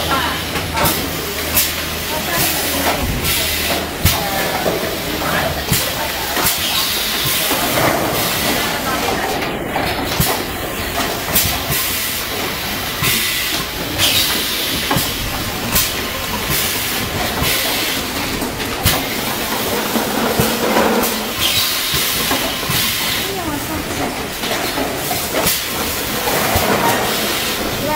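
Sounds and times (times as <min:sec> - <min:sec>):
filling machine clattering: 0:00.4 - 0:27.9.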